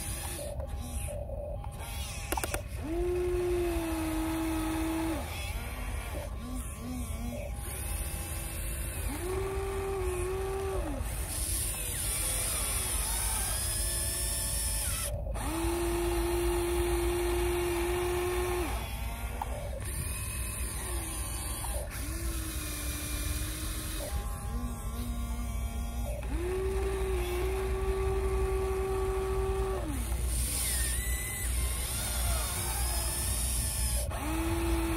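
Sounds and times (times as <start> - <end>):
electric motors whining: 0.0 - 34.9.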